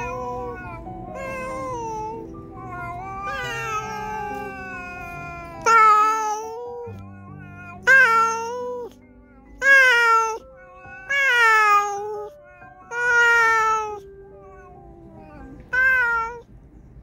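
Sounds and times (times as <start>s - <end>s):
cat yowling: 0.0s - 16.5s.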